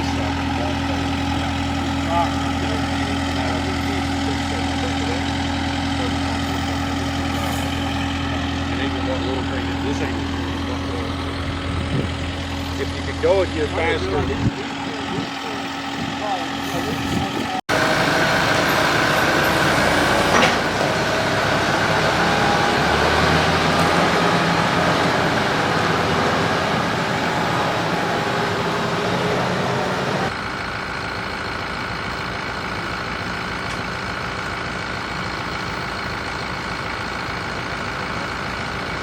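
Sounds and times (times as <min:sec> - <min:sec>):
diesel tractor engine running: 0:00.0 - 0:39.0.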